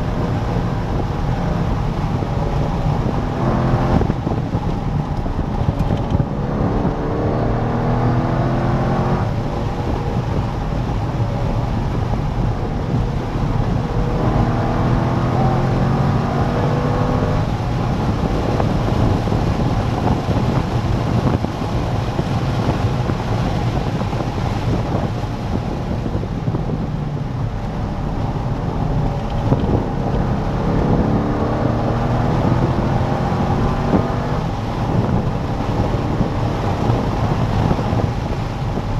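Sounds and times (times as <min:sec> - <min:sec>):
sports car engine revving: 0:00.0 - 0:25.0, 0:26.1 - 0:38.9
wind noise: 0:00.0 - 0:38.9.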